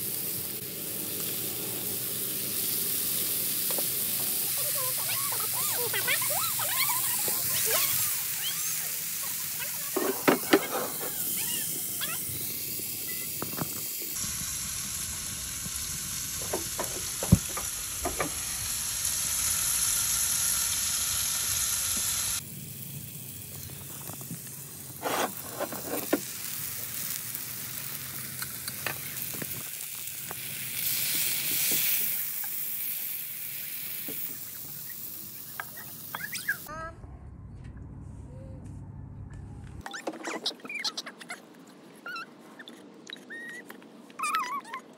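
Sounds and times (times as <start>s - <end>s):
meat sizzling in a skillet: 0.0s - 36.7s.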